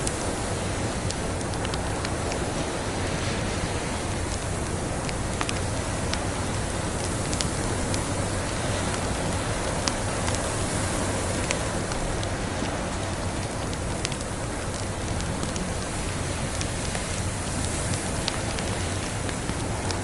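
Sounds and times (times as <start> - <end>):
steady hiss of fire: 0.0 - 20.0
wood fire crackling: 0.0 - 20.0.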